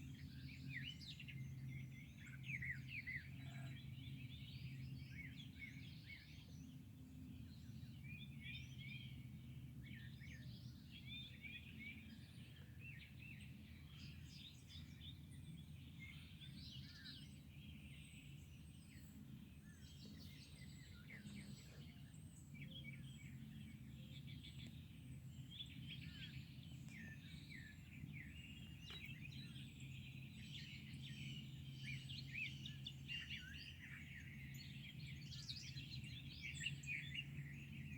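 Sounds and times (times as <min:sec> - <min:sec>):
small birds chirping and trilling: 0:00.0 - 0:37.9.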